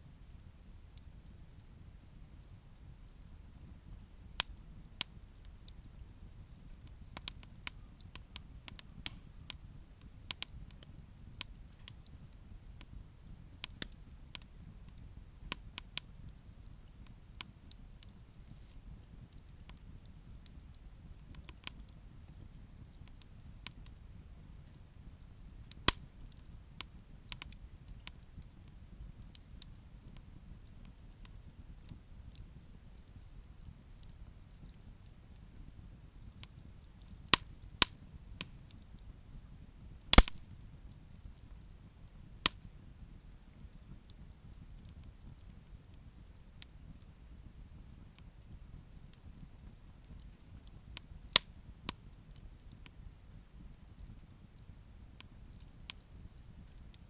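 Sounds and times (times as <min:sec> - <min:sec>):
campfire crackling and popping: 0:00.0 - 0:57.0
low steady rumble: 0:00.0 - 0:57.0.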